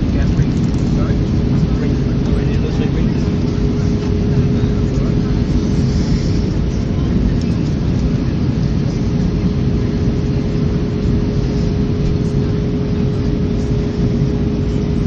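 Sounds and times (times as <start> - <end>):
jet engines roaring: 0.0 - 15.0
steady hum: 0.0 - 15.0.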